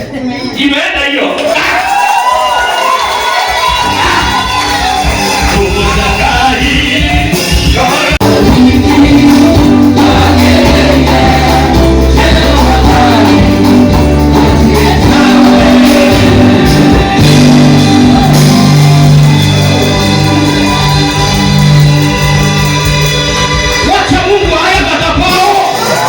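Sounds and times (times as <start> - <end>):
loud music with singing: 1.1 - 26.0
sustained bass line: 3.8 - 26.0.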